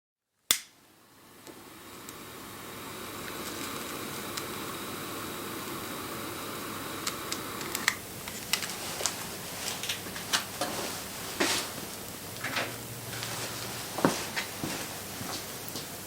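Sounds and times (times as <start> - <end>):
wood fire crackling: 1.4 - 16.0.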